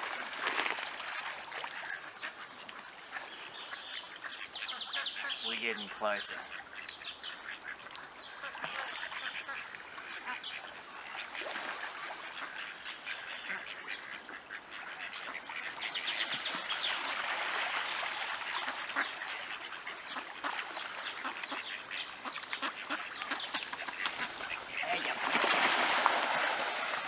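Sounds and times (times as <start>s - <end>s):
water splashing: 0.0s - 4.2s, 7.4s - 14.2s, 14.8s - 27.0s
ducks quacking: 1.2s - 27.0s.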